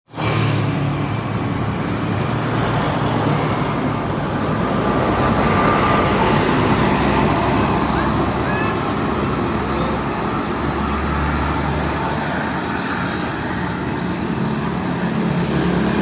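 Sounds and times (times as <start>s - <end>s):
large vehicle engine hum: 0.1s - 16.0s
road traffic noise: 0.1s - 16.0s.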